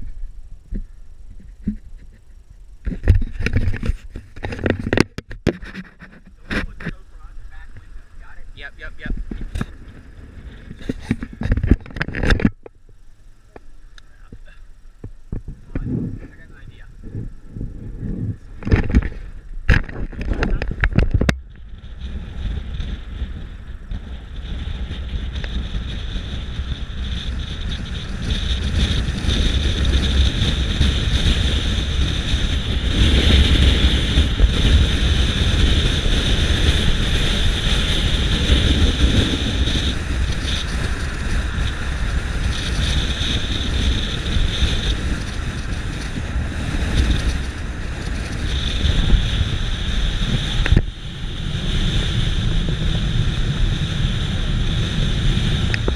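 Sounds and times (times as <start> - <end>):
wind buffeting microphone: 0.0 - 12.8, 14.2 - 55.9.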